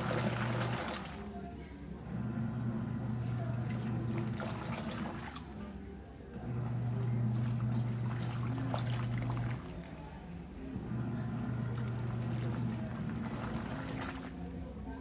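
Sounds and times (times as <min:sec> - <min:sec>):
water sloshing: 0:00.0 - 0:01.6, 0:03.0 - 0:14.9
washing machine motor humming: 0:00.0 - 0:15.0.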